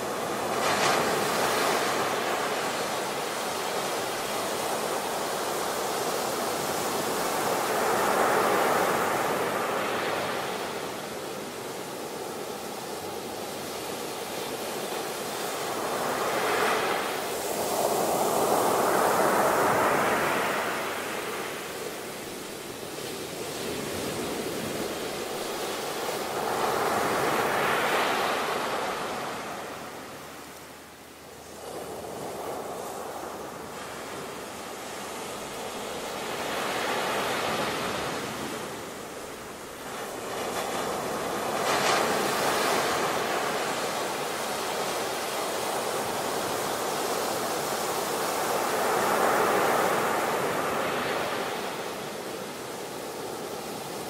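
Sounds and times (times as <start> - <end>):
ocean waves on a beach: 0.0 - 54.0.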